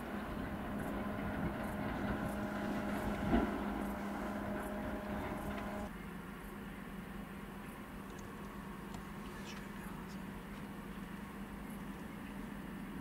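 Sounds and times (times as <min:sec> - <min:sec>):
distant mechanical hum: 0:00.0 - 0:13.0.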